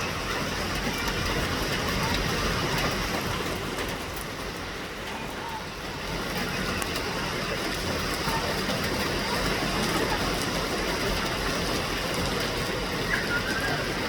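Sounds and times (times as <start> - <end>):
steady rain hiss: 0.0 - 14.0
street traffic rumble: 0.0 - 14.0.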